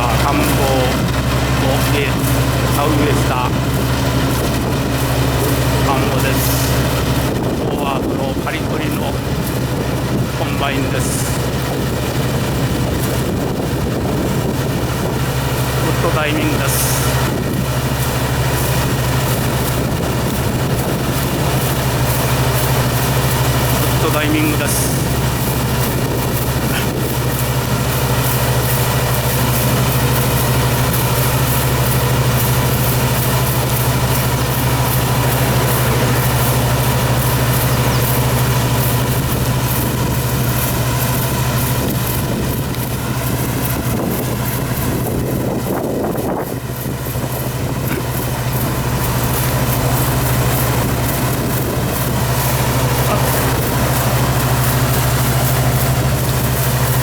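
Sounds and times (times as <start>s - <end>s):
combine engine humming: 0.0s - 57.0s.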